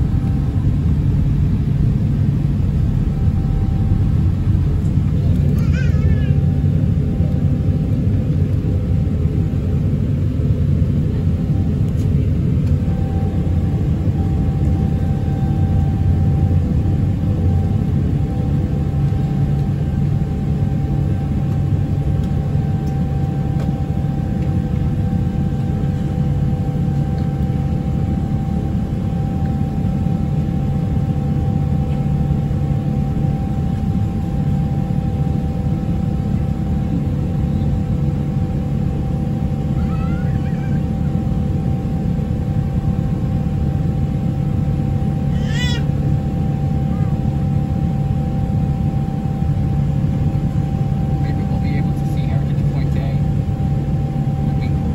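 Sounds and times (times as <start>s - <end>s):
multi-tone whine: 0.0s - 5.6s, 6.4s - 45.3s, 46.0s - 54.9s
jet engine cabin rumble: 0.0s - 54.9s.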